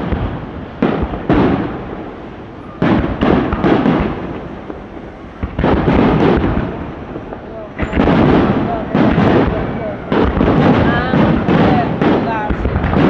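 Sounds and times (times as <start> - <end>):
fireworks bangs with echo: 0.0 - 13.0.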